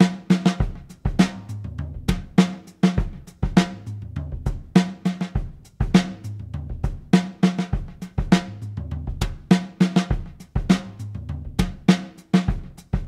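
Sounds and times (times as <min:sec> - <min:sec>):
drum kit groove: 0:00.0 - 0:13.0.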